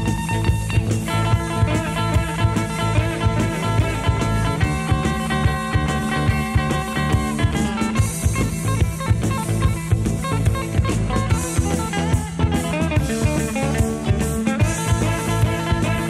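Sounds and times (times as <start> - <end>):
bass: 0.0 - 16.0
drum kit beat: 0.0 - 16.0
guitar: 0.0 - 16.0.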